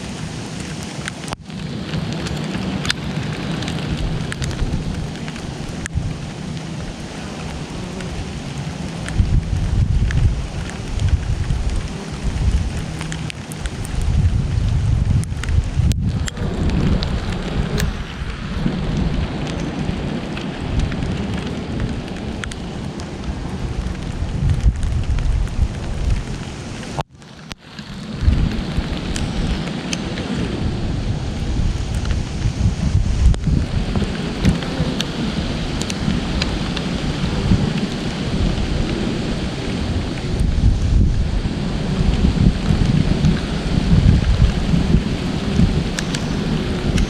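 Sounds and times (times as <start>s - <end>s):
steady rain falling: 0.0s - 47.0s
heavy low rumble: 1.2s - 47.0s.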